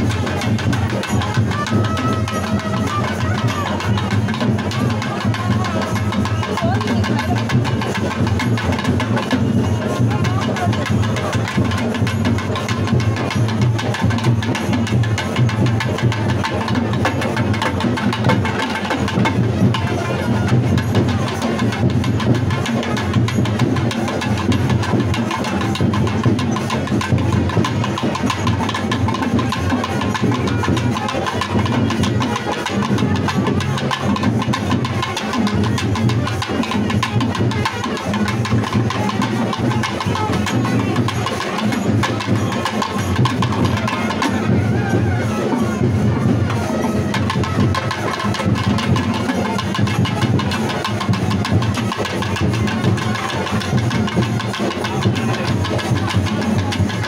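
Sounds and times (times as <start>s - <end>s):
crowd noise: 0.0s - 57.0s
drums in fast beat: 0.0s - 57.0s.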